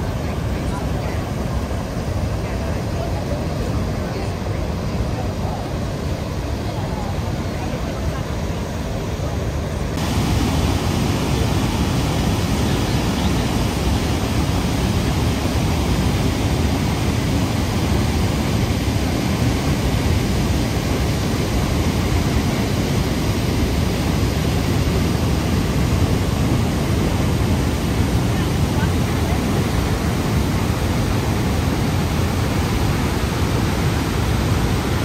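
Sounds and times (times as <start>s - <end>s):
loud rush of falling water: 0.0s - 35.0s.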